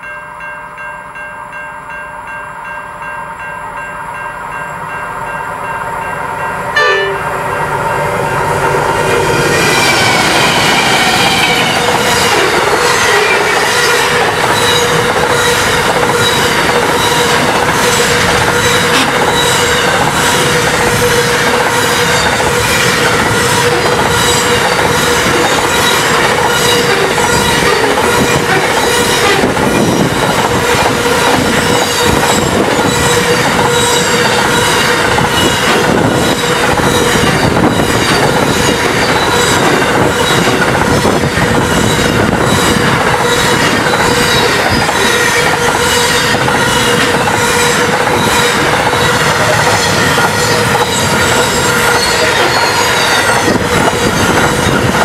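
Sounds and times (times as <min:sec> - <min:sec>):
train wheels rushing on rail: 0:03.0 - 0:55.0
high wheel squeal: 0:09.0 - 0:55.0
clickety-clack of wheels: 0:09.6 - 0:55.0.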